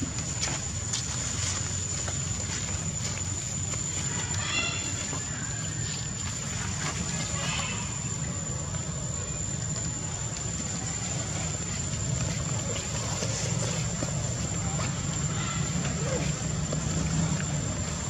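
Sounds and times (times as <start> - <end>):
constant thin high tone: 0.0 - 18.0.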